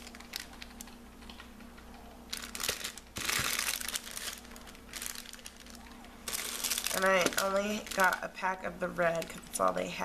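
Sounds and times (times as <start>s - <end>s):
plastic packaging crinkling: 0.0s - 1.5s, 2.3s - 9.9s.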